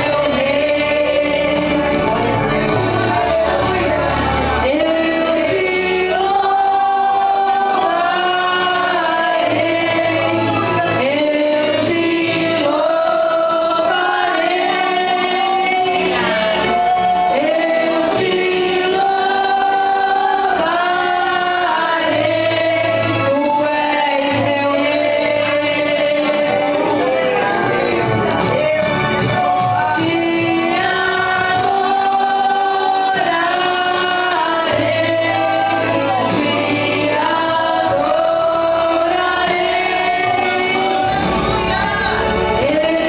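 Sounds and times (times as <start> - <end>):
group singing gospel song: 0.0 - 43.0
instrumental backing with bass: 0.0 - 43.0.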